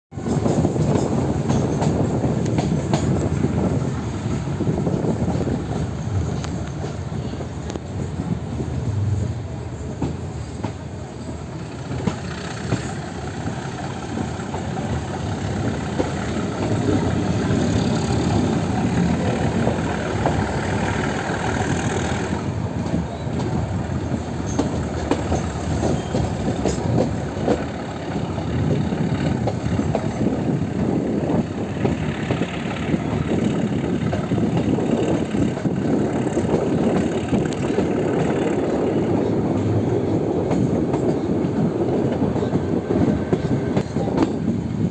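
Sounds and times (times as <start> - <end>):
train wheels rumbling on track: 0.1 - 44.9.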